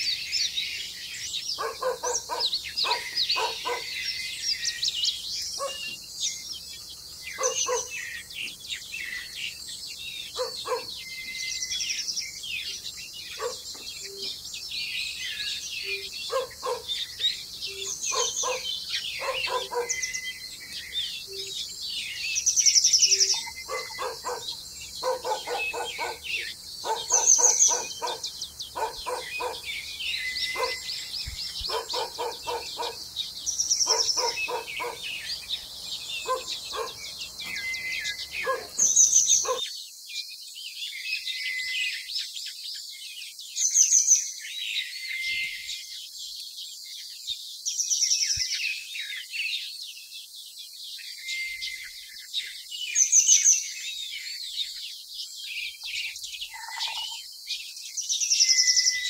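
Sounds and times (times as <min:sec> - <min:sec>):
bird chirps: 0:00.0 - 0:59.0
high bird song phrase: 0:00.0 - 0:59.0
lower repeated bird calls: 0:00.0 - 0:59.0.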